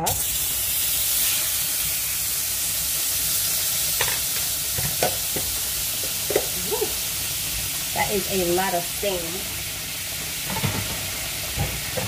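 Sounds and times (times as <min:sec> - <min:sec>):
butter sizzling in a pan: 0:00.0 - 0:12.0.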